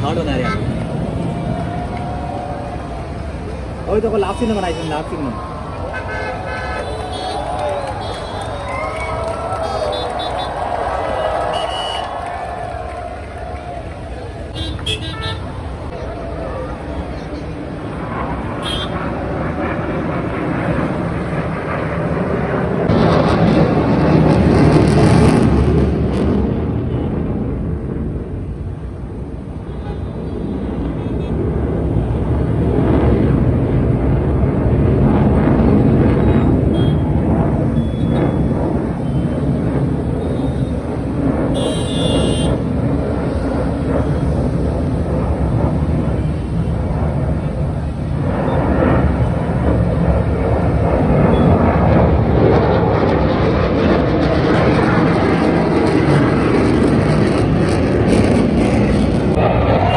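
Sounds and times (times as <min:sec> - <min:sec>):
fighter jet flying past: 0:00.0 - 0:29.5, 0:30.2 - 0:59.9.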